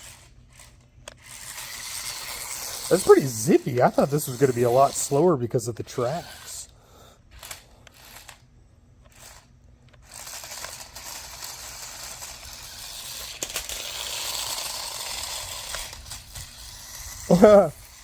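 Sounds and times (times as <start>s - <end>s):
toy car motor rattling whir: 0.0s - 18.0s.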